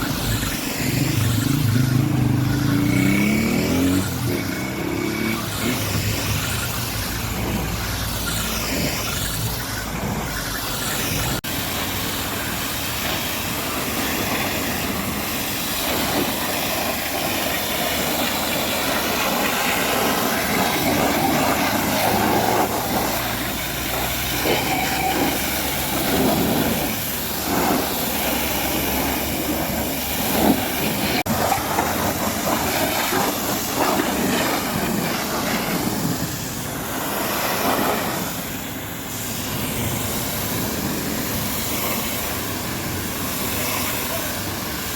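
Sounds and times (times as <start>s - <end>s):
high-pressure water jet hissing: 0.0s - 44.9s.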